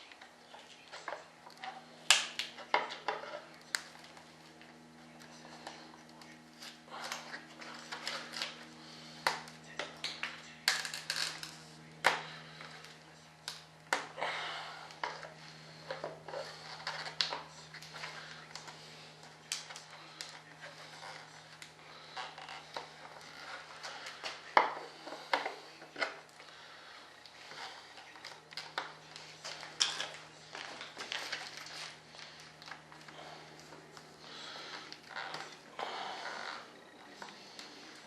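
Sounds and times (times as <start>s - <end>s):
crinkly scraping: 0.0s - 38.0s
steady low hum: 0.0s - 38.0s.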